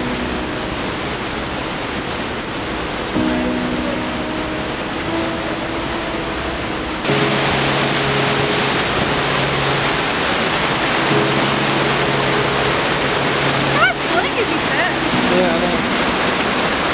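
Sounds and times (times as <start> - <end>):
waterfall rushing over rock: 0.0 - 16.9.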